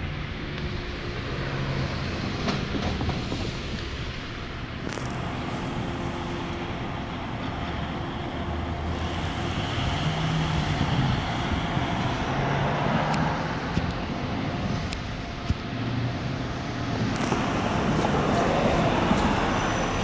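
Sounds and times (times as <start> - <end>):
diesel train engine hum: 0.0 - 20.0
road traffic passing: 0.0 - 20.0.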